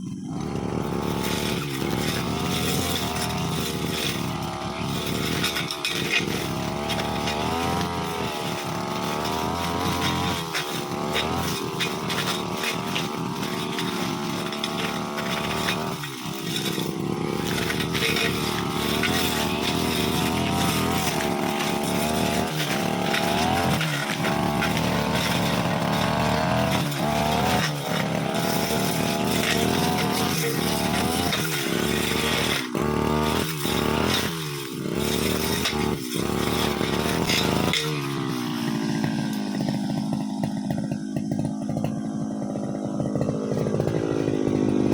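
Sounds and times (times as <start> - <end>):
brush cutter engine revving: 0.0 - 44.9.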